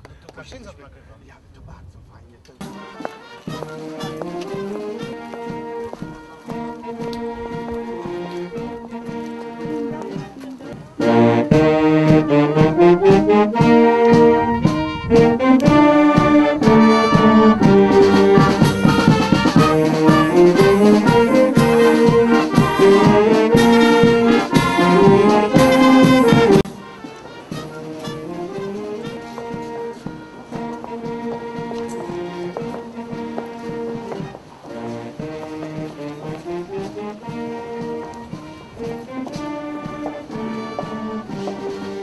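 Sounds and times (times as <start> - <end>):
marching wind band playing: 2.6 - 42.0.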